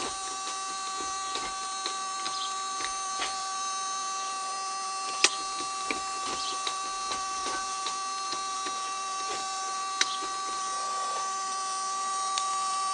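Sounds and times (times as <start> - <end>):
mechanical whine: 0.0 - 12.9.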